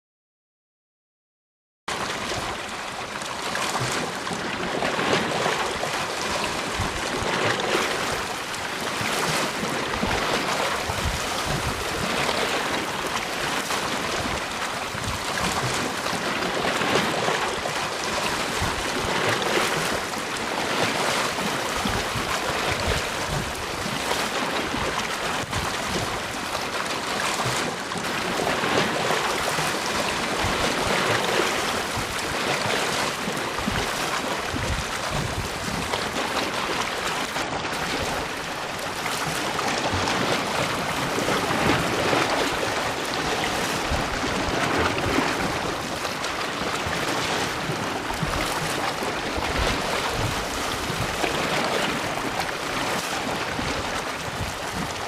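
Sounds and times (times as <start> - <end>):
sea waves washing onto beach: 1.9 - 55.0.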